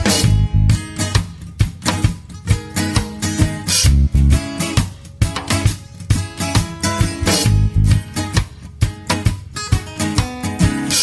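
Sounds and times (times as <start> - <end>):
bass: 0.0 - 11.0
guitar: 0.0 - 11.0
steady drum beat: 0.0 - 11.0.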